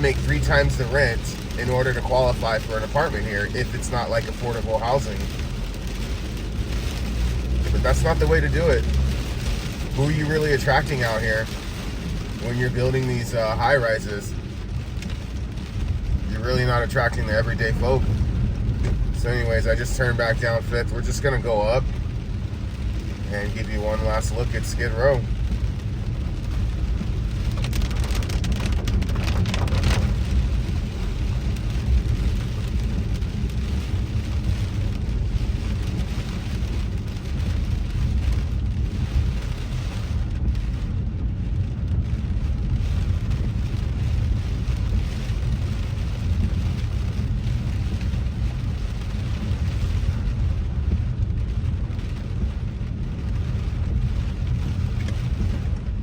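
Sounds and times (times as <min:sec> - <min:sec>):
car and tyres rumbling on wet road: 0:00.0 - 0:56.0
rain falling on car: 0:00.0 - 0:56.0.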